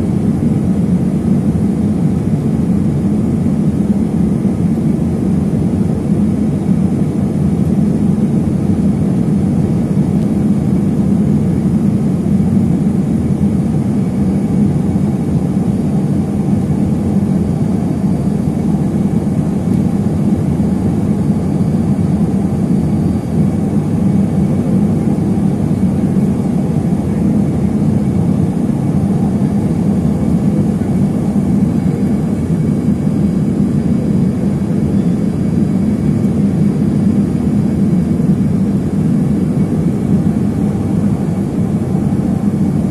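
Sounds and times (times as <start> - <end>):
jet cabin engine roar: 0.0 - 42.9.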